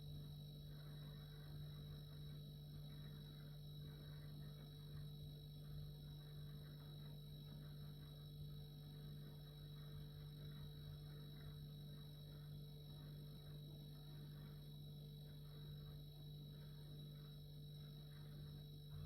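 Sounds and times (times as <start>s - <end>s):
refrigerator humming: 0.0s - 19.0s.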